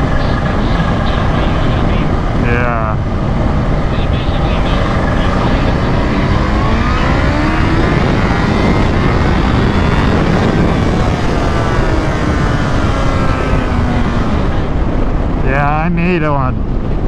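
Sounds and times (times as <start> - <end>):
motorcycle engine running: 0.0 - 15.0
wind rush on microphone: 0.0 - 17.0.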